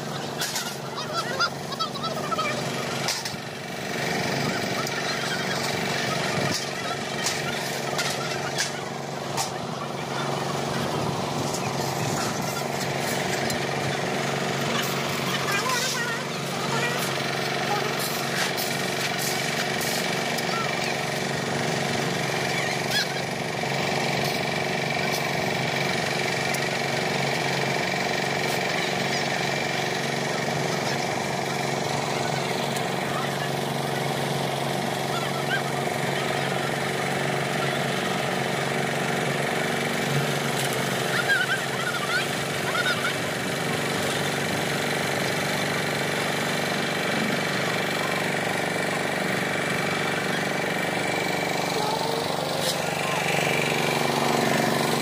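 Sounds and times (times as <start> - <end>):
concrete mixer diesel engine running: 0.0 - 55.0.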